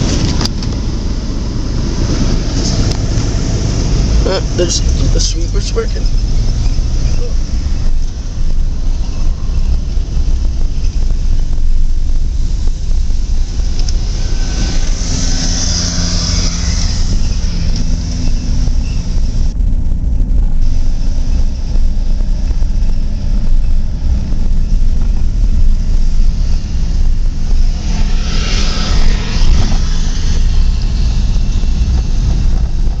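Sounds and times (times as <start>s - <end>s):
construction machinery diesel rumble: 0.0s - 27.8s.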